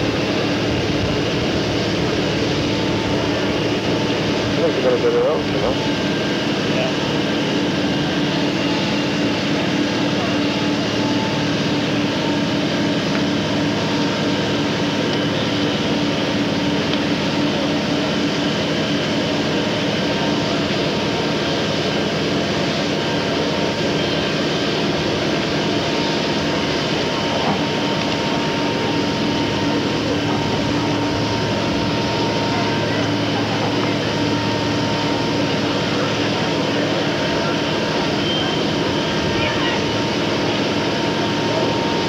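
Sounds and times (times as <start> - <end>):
pump engine droning: 0.0 - 42.0.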